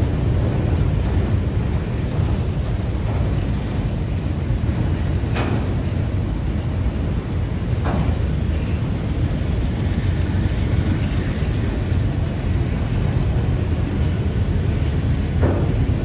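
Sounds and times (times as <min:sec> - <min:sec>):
passing train rumble: 0:00.0 - 0:16.0.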